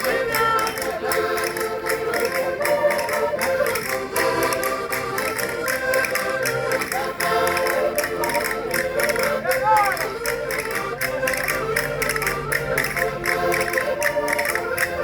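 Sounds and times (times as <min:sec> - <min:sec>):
concertinas playing folk tune: 0:00.0 - 0:15.0.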